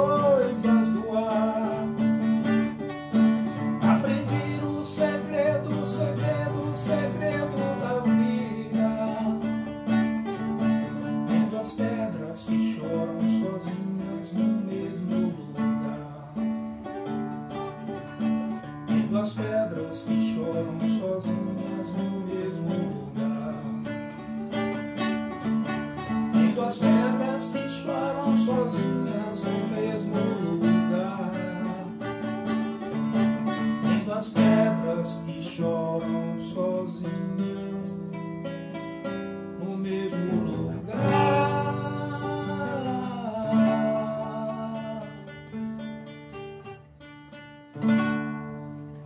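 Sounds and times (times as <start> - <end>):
classical guitar strummed and picked: 0.0 - 49.0.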